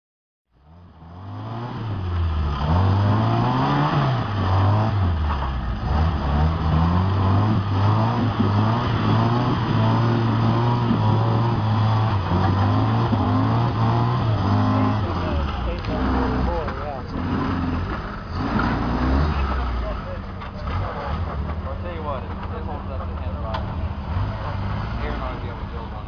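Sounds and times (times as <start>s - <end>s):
engine revving hard: 0.6s - 26.0s.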